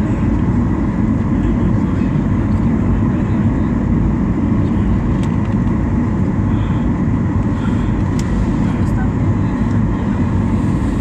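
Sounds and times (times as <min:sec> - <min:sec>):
faint whine: 0:00.0 - 0:11.0
jet engine and airflow rumble: 0:00.0 - 0:11.0.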